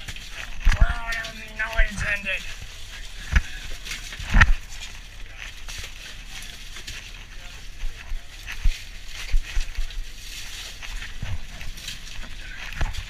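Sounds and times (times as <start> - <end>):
ice crunching and scraping: 0.0 - 13.0
steady low rumble: 0.1 - 13.0.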